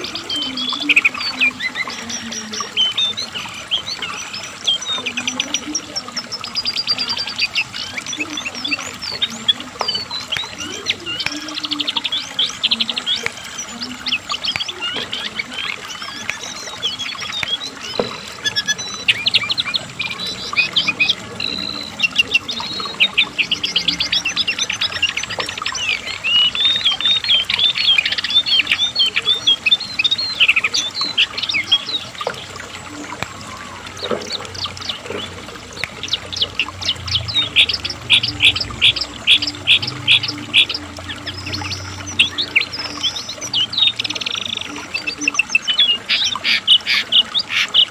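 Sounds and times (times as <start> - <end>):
songbird chattering trills: 0.0 - 47.9.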